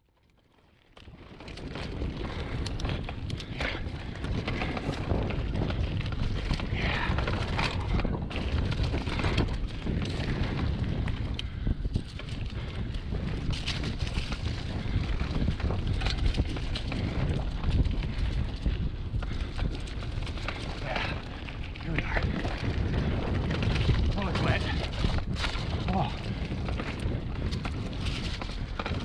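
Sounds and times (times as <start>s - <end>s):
mountain bike rolling on rocky trail: 0.0s - 29.0s
wind buffeting microphone: 1.0s - 29.0s.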